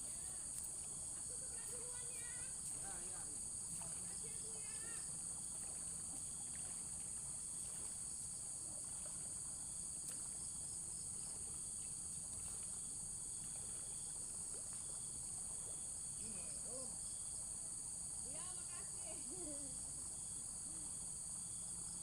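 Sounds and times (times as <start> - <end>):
insects chirping chorus: 0.0 - 22.0.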